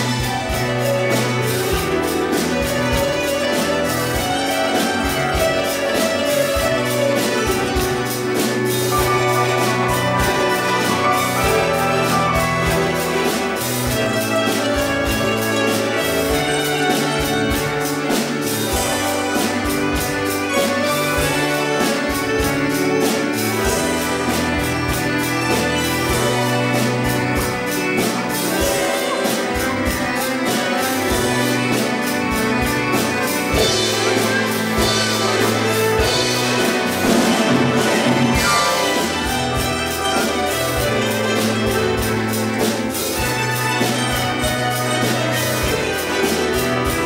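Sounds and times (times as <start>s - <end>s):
drum kit steady beat: 0.0s - 47.0s
plucked string ensemble: 0.0s - 47.0s.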